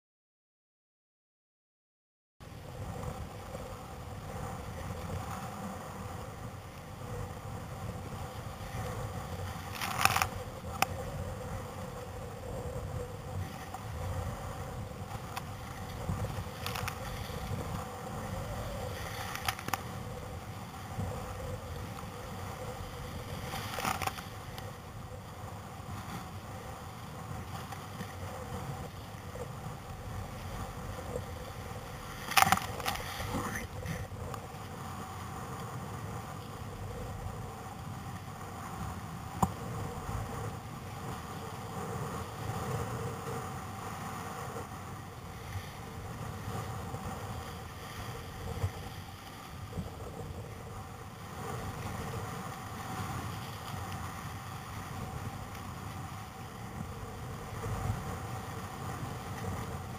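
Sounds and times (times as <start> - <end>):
rough surf churning: 2.4 - 59.9.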